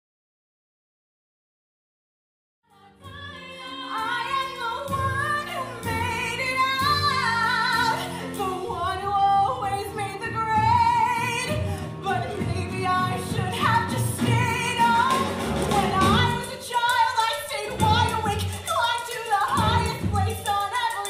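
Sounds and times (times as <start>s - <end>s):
woman singing with vibrato: 2.7s - 21.0s
instrumental accompaniment: 2.8s - 21.0s.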